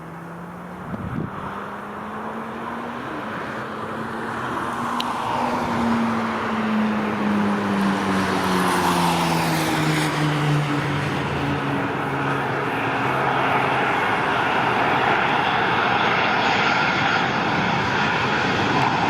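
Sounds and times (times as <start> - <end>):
jet engines hum: 0.0 - 19.0.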